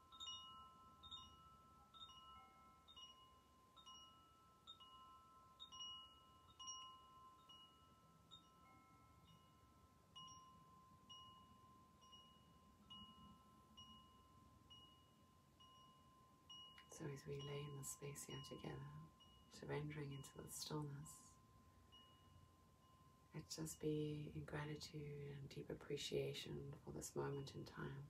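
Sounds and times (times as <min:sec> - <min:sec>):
high chime notes tinkling: 0:00.0 - 0:24.3
soft ringing tone: 0:00.0 - 0:24.3.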